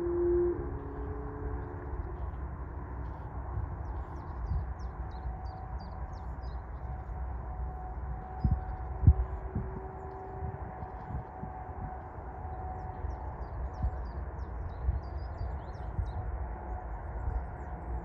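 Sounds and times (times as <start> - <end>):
faint steady hum: 0.0 - 18.0
low rumble: 0.0 - 18.0.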